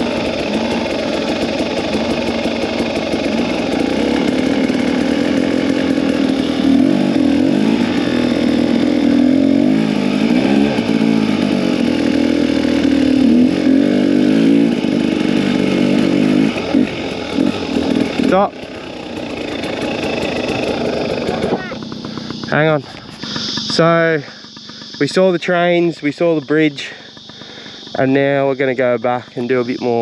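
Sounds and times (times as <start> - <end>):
small two-stroke engine revving: 0.0 - 30.0.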